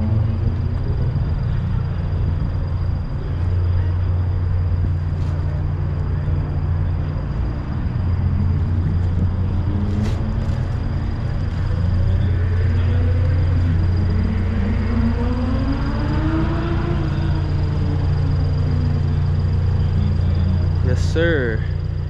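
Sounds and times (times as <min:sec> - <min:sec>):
car engine and exhaust droning: 0:00.0 - 0:22.0.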